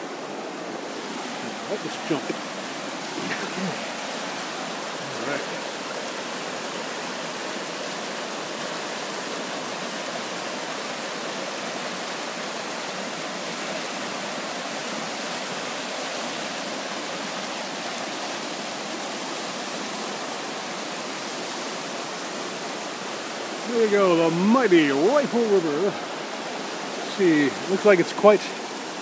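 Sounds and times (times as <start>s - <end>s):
river whitewater rushing over rocks: 0.0s - 29.0s.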